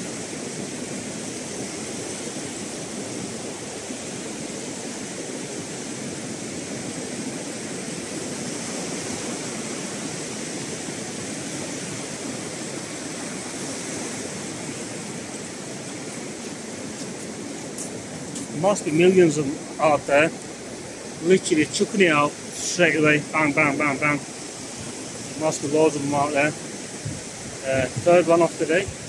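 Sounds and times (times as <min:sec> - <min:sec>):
surf breaking on a beach: 0:00.0 - 0:29.0.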